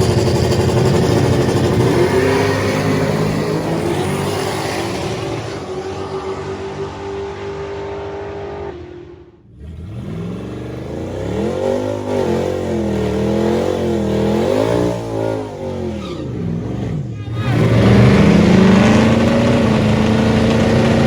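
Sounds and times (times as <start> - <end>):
drag car engines revving: 0.0 - 21.0.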